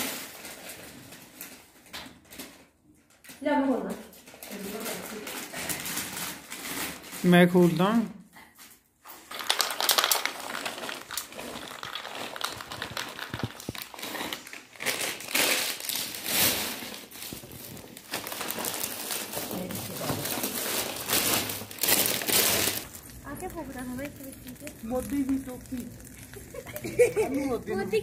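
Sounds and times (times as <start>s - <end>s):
plastic bags crinkling: 0.0s - 8.0s, 8.6s - 28.0s.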